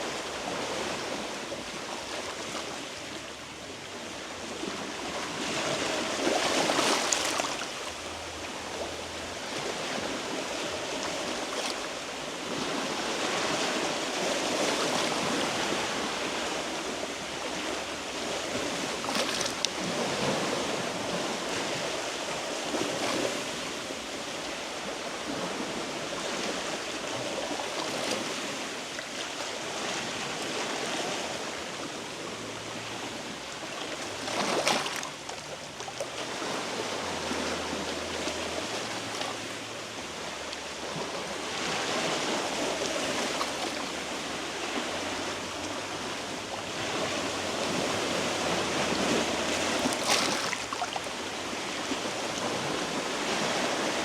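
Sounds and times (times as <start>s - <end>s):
sea waves washing against rocks: 0.0s - 54.0s.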